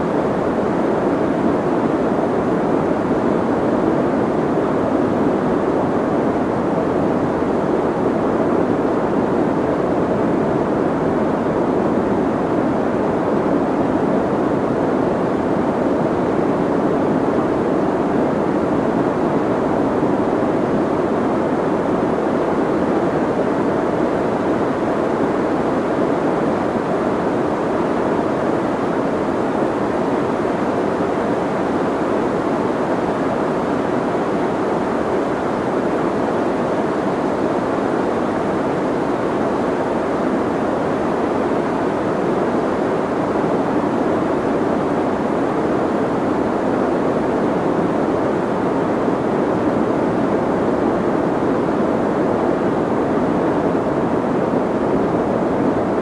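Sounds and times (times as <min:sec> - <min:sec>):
soft white noise: 0:00.0 - 0:56.0.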